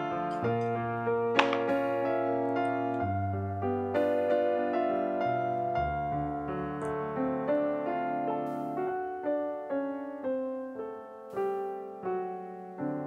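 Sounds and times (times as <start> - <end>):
piano single notes: 0.0 - 13.0.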